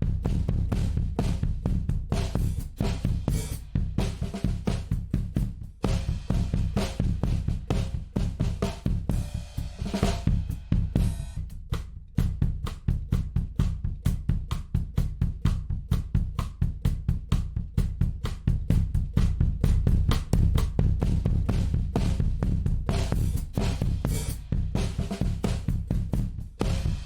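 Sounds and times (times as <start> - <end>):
drum kit playing busy beat: 0.0 - 27.0.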